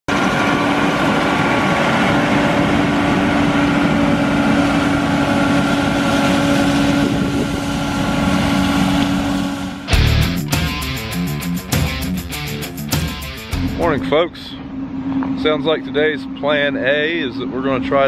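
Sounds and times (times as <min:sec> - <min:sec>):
combine harvester droning: 0:00.1 - 0:18.0.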